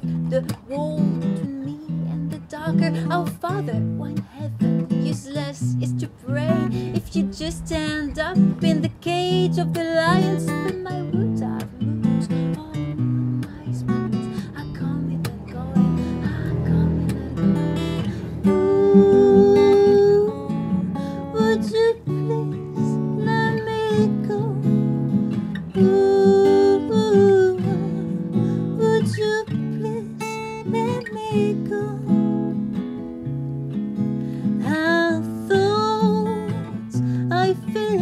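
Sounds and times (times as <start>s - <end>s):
woman singing: 0.0s - 32.8s, 34.4s - 38.0s
strummed acoustic guitar: 0.0s - 38.0s.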